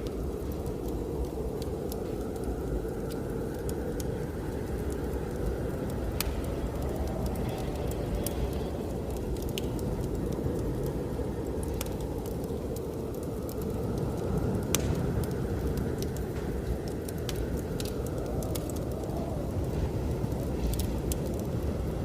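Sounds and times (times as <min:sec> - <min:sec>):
blizzard wind rumbling: 0:00.0 - 0:22.0
wood fire crackling and popping: 0:00.0 - 0:22.0.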